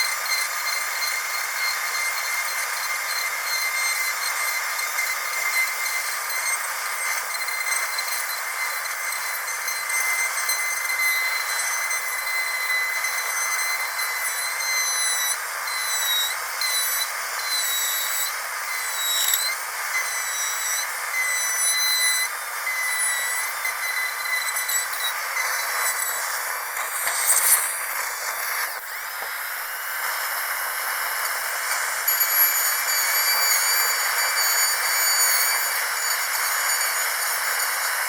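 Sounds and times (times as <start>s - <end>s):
dental drill whining: 0.0s - 38.0s.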